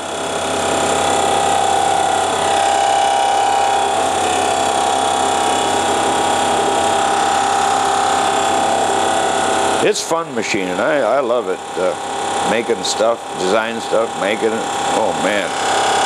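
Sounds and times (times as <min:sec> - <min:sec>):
milling cutter cutting metal: 0:00.0 - 0:16.0.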